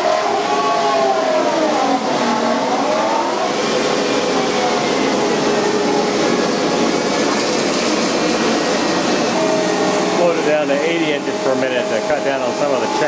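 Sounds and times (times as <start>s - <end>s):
cnc router cutting: 0.0s - 13.0s.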